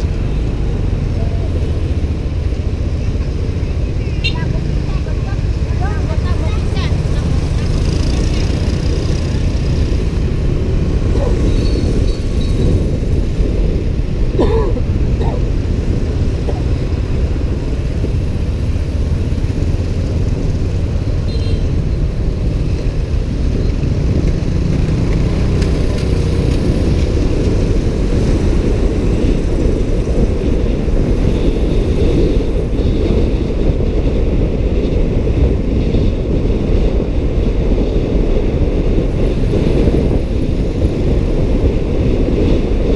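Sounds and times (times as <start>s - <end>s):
road and traffic noise: 0.0s - 42.9s
wind rumble on microphone: 0.0s - 42.9s.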